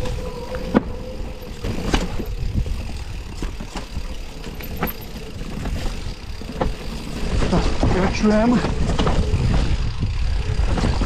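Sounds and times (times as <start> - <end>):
bike knocking and rattling: 0.0 - 11.0
wind and tyres rumbling: 0.0 - 11.0.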